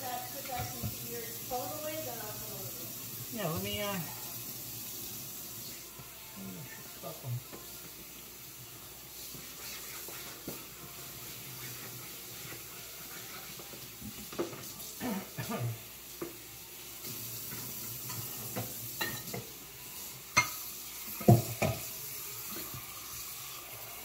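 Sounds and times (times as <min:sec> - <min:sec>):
meatballs sizzling in a pan: 0:00.0 - 0:24.0.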